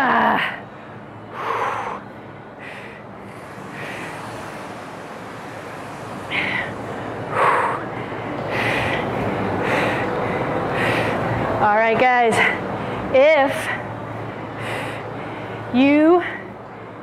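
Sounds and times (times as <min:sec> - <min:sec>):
woman breathing hard: 0:00.3 - 0:11.5, 0:12.3 - 0:17.0.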